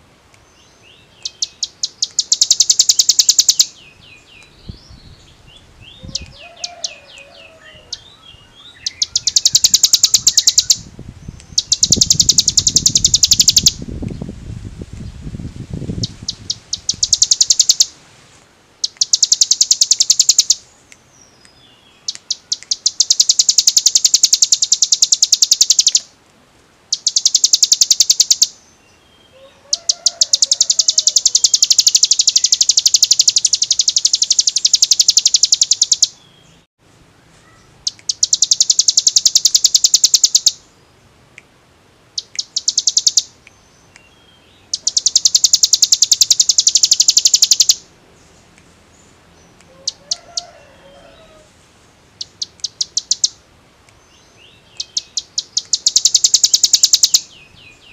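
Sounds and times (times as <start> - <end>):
bird trilling song: 0.5 - 14.3, 15.9 - 18.0, 18.8 - 26.1, 26.9 - 36.7, 37.4 - 41.0, 42.2 - 51.4, 52.2 - 57.9.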